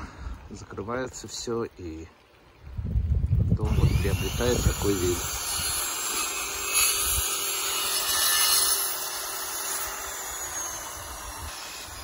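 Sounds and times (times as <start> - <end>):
light rain and wet snow hiss: 0.0 - 3.6, 4.4 - 12.0.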